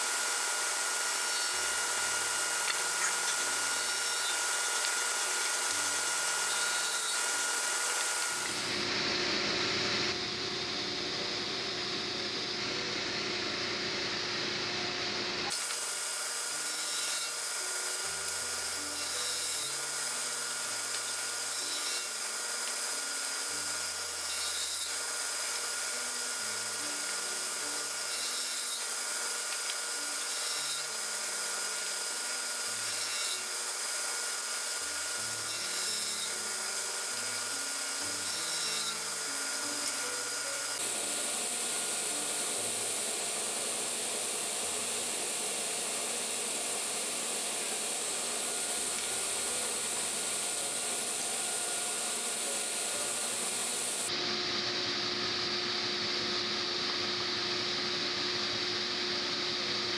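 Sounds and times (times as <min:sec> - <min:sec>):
table saw blade whining: 0:00.0 - 0:12.9, 0:15.4 - 0:59.9.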